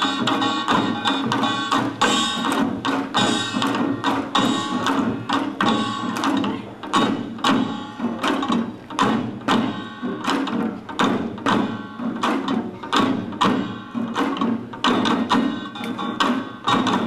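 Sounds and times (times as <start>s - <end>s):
drums beaten in steady rhythm: 0.0s - 17.0s.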